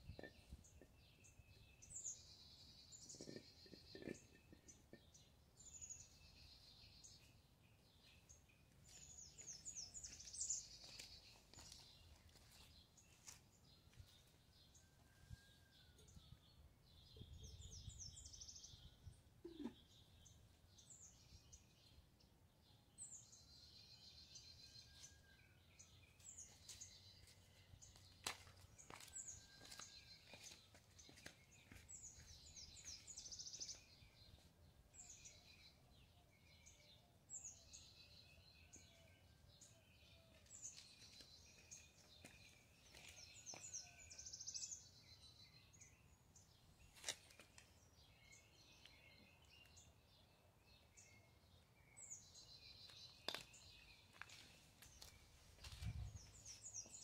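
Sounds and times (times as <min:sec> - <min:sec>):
trilling birdsong: 0:00.0 - 0:57.0.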